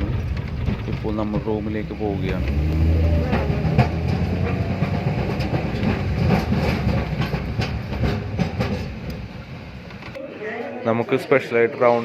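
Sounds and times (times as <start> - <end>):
rattles and knocks: 0.0 - 10.2
vehicle rumble from inside: 0.0 - 10.2.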